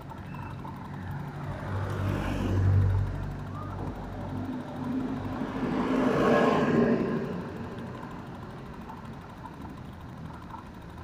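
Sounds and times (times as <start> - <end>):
vehicles driving past: 0.0 - 10.0.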